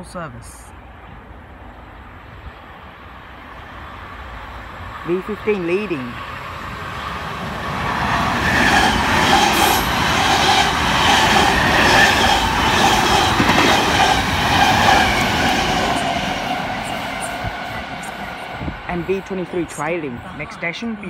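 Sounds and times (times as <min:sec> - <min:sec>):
train wheels rumbling on rails: 0:01.0 - 0:21.0.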